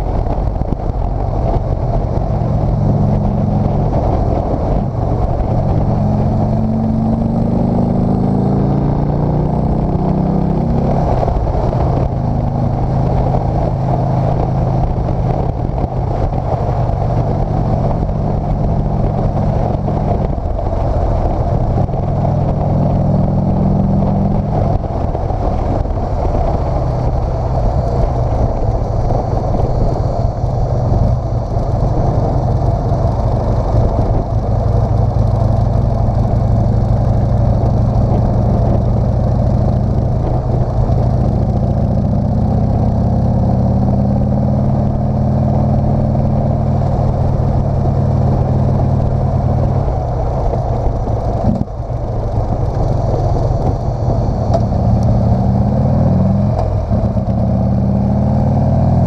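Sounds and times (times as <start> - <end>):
wind rushing: 0.0 - 58.6
motorcycle engine running: 0.0 - 59.0.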